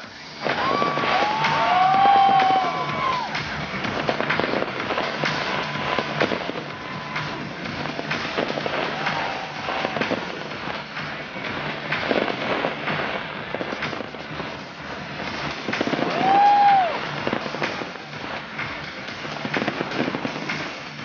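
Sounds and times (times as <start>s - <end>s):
fireworks bursting: 0.0s - 21.0s
fireworks crackling: 0.0s - 21.0s.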